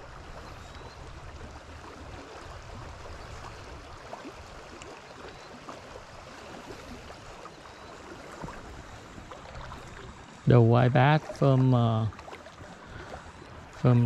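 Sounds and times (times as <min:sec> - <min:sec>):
small waves lapping: 0:00.0 - 0:14.0.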